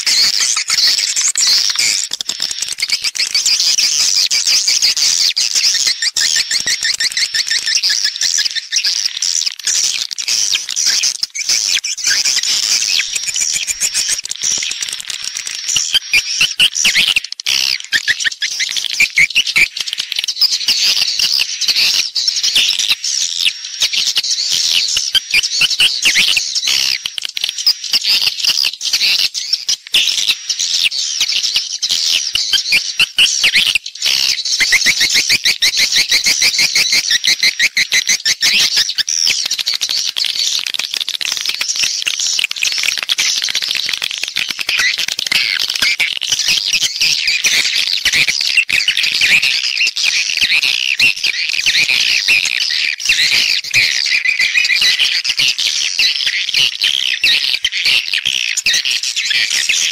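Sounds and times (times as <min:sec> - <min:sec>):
swiftlets chirping and twittering: 0:00.0 - 0:59.9.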